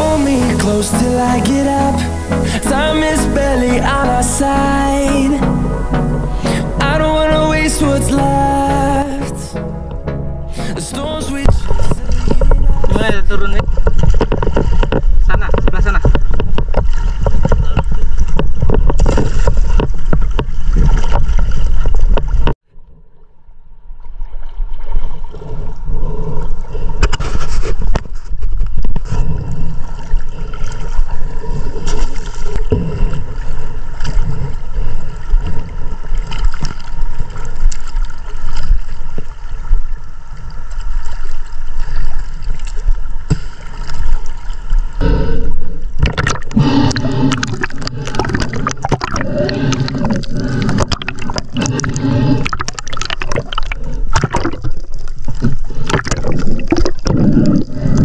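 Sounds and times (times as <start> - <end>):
water splashing: 0.0 - 22.6, 23.8 - 58.0
water sloshing and gurgling: 0.0 - 58.0.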